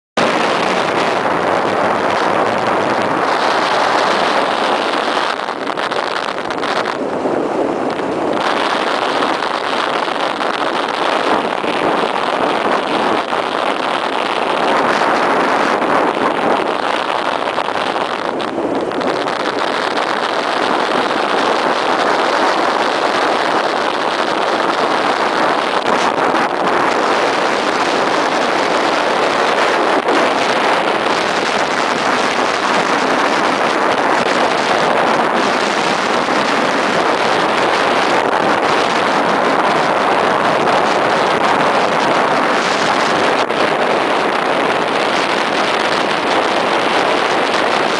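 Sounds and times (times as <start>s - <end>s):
sled runners rushing over snow: 0.2s - 47.9s
wind buffeting microphone: 0.2s - 47.9s.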